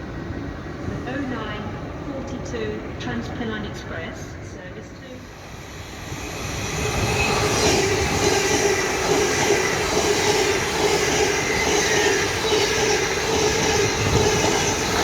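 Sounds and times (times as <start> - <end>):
train rumbling past: 0.0 - 15.0
train whine: 0.0 - 15.0.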